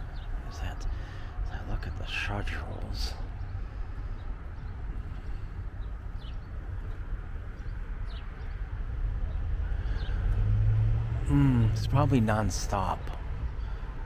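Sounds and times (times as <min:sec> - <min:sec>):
traffic rumble: 0:00.0 - 0:14.0
wind: 0:00.0 - 0:14.0.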